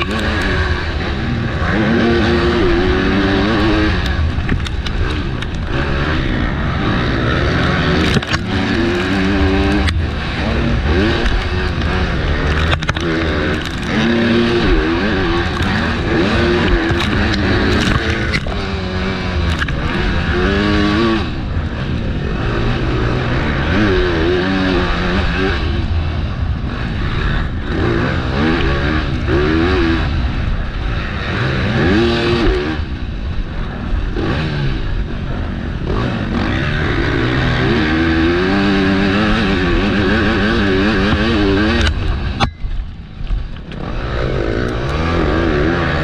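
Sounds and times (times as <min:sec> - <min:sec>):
motocross bike engine revving: 0:00.0 - 0:42.4, 0:43.4 - 0:46.0
wind noise on microphone: 0:00.0 - 0:46.0.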